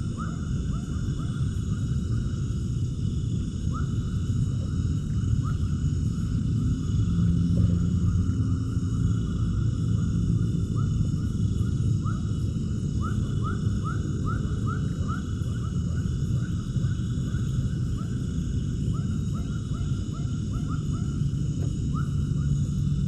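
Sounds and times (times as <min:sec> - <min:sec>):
low rumble: 0:00.0 - 0:20.2.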